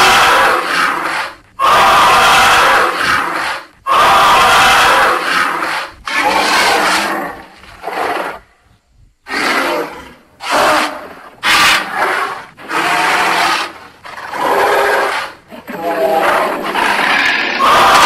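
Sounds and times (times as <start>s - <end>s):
dinosaur roars and growls: 0.0s - 8.4s, 9.3s - 18.0s.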